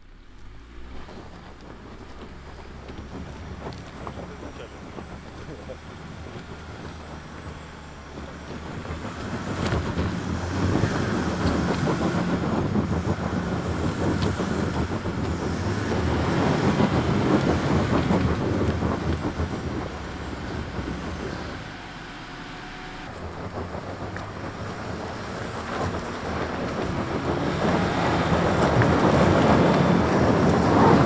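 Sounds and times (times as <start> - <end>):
engine working under load: 0.0 - 31.0
tyres crunching over gravel: 0.1 - 31.0.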